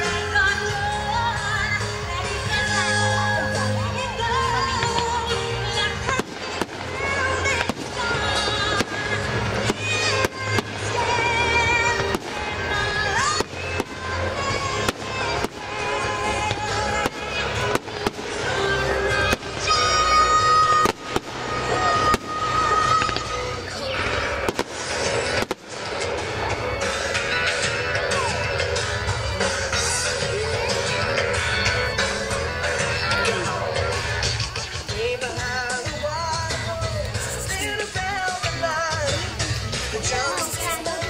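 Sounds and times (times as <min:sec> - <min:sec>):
fireworks bangs: 0:00.0 - 0:41.0
music playing: 0:00.0 - 0:41.0.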